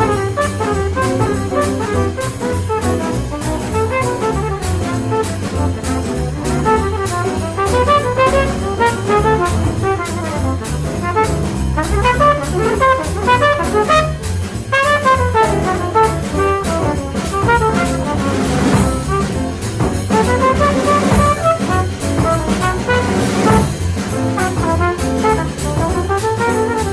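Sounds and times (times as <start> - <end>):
drums with ride cymbal: 0.0 - 26.9
trumpet playing bebop runs: 0.0 - 26.9
walking bass: 0.0 - 26.9.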